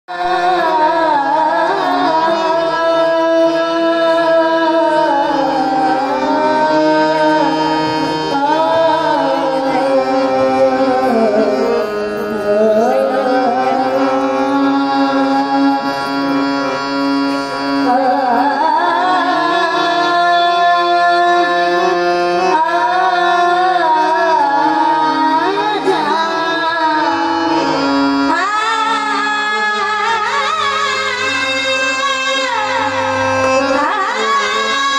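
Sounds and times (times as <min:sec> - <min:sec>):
high voice singing: 0:00.1 - 0:34.9
held instrumental notes: 0:00.2 - 0:34.9.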